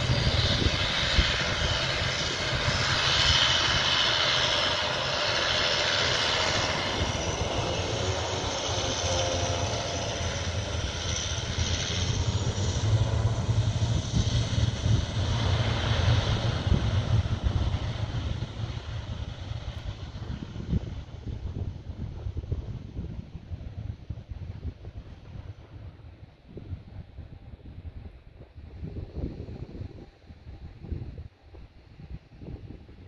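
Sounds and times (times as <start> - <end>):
aircraft low rumble: 0.0 - 33.0
turboprop engine high whine: 0.0 - 33.0.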